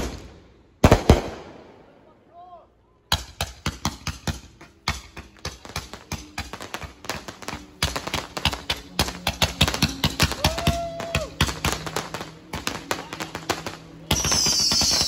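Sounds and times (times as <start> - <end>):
firework bangs and crackles: 0.0 - 1.9, 3.1 - 15.0.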